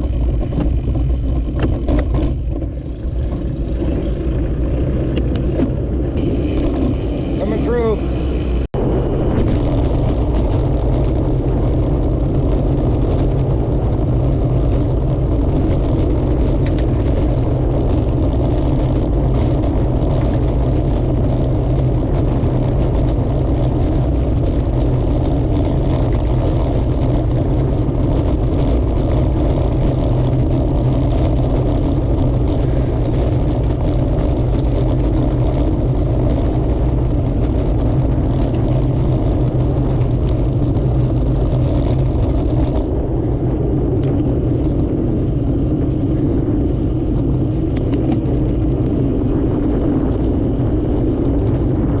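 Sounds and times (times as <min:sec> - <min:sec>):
road noise: 0:00.0 - 0:52.0
wind buffeting microphone: 0:00.0 - 0:52.0.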